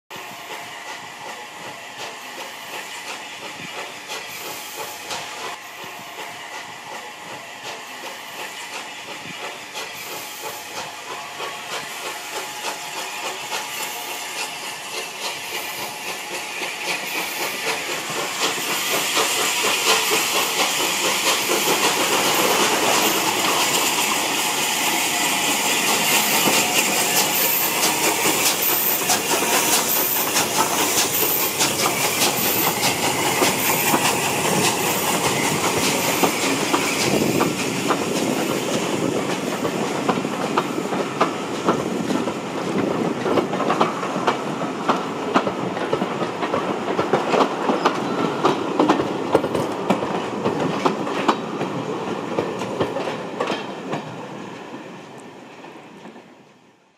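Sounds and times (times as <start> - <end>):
steam hiss: 0.1 - 55.4
steam locomotive passing: 0.1 - 56.9.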